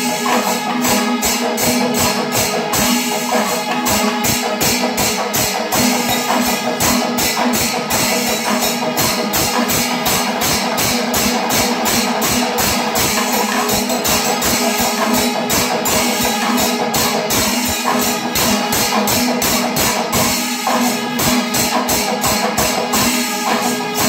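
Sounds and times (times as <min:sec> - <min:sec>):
cymbals: 0:00.0 - 0:24.0
drums playing fast beat: 0:00.0 - 0:24.0.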